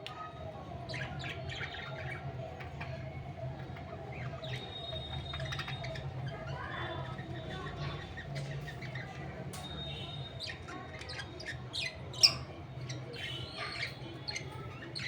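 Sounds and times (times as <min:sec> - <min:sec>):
budgerigars chirping and squawking: 0:00.8 - 0:09.4, 0:10.0 - 0:15.0.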